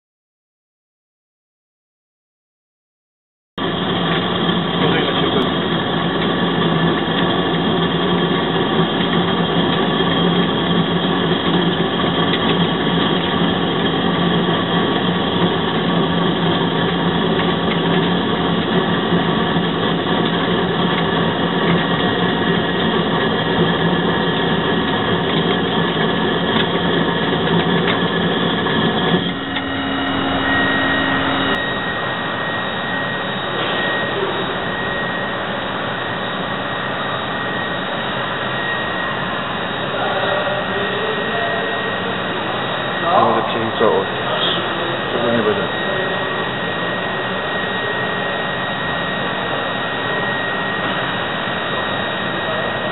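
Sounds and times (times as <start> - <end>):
lathe spindle humming and whining: 3.6 - 52.9
machine hum with high whine: 3.6 - 52.9.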